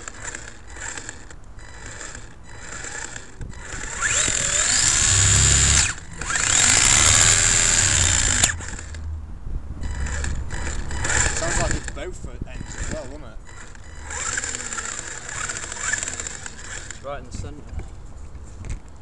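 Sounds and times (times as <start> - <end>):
toy truck rattling: 0.0 - 9.0, 9.8 - 17.8
electric motor whining: 0.0 - 9.1, 9.8 - 17.1.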